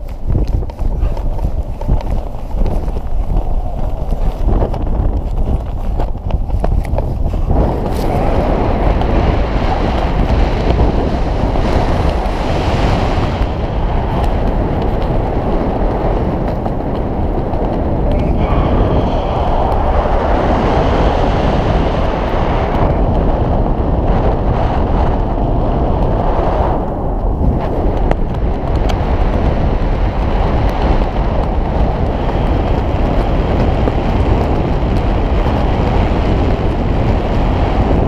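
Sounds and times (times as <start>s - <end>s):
loud wind on microphone: 0.0s - 38.0s.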